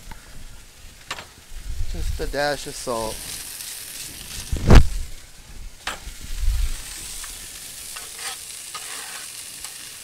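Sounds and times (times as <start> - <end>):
food sizzling on a griddle: 0.0 - 10.0.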